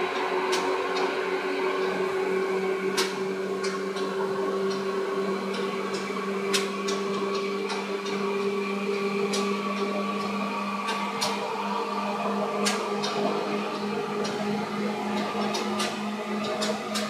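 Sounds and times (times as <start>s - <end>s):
electric train running hum: 0.0s - 17.0s
wheels clicking over rail joints: 2.6s - 17.0s.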